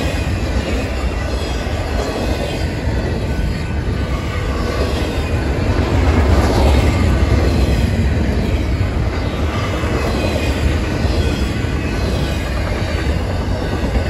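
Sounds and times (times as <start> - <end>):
freight train wheels rumbling on rail: 0.0 - 14.0.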